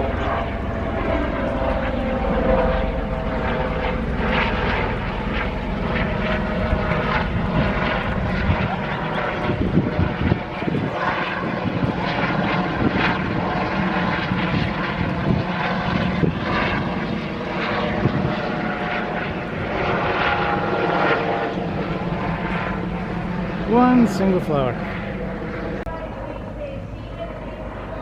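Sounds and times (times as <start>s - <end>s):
steady engine drone: 0.0s - 28.0s.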